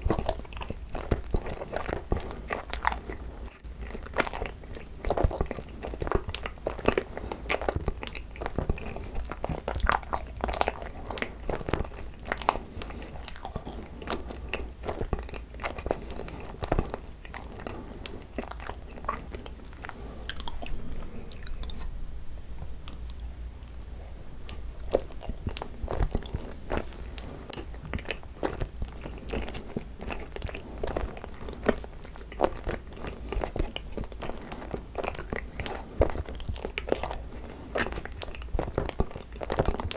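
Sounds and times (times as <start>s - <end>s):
chewing and biting rice cake: 0.0s - 21.9s, 24.4s - 39.9s.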